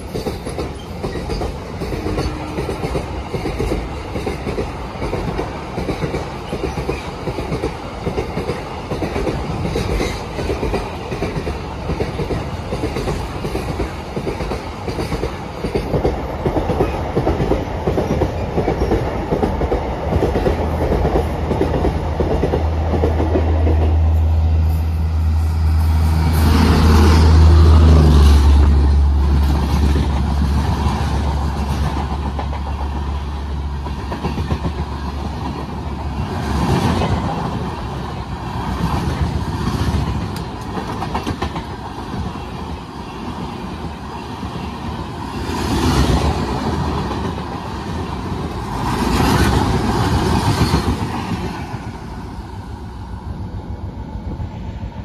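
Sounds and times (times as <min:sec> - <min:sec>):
low hum of electric locomotive: 0:00.0 - 0:55.0.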